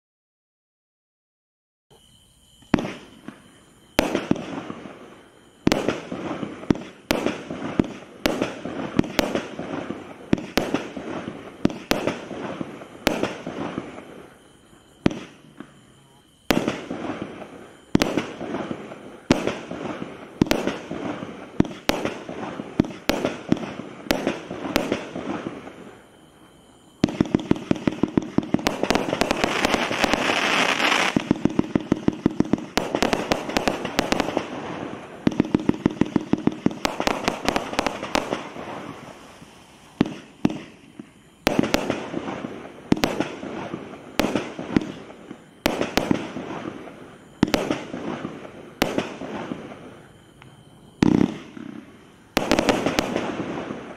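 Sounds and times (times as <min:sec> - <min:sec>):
firework crackling: 0:01.9 - 0:53.9
firework bangs: 0:02.6 - 0:53.9.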